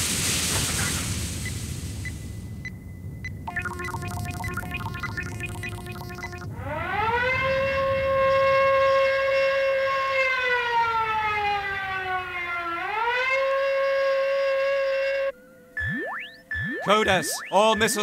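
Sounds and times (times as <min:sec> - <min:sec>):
alarm siren wailing: 0:03.5 - 0:18.0.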